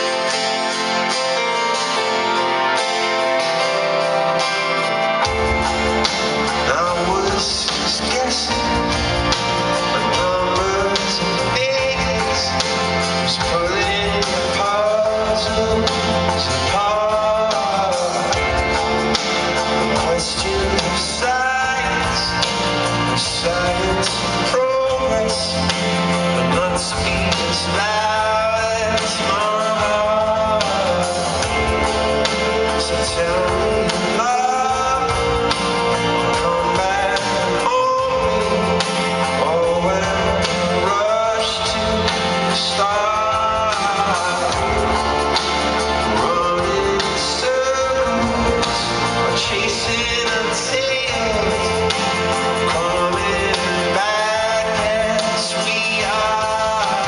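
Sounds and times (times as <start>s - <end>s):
bass guitar: 0.0s - 57.0s
drums: 0.0s - 57.0s
electric guitar: 0.0s - 57.0s
keyboard: 0.0s - 57.0s
man singing lead vocal: 0.0s - 57.0s.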